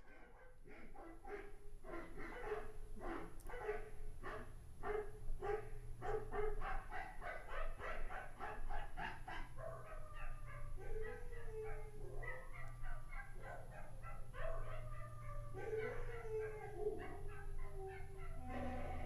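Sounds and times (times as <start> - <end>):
dog barking and yelping: 0.2 - 19.0.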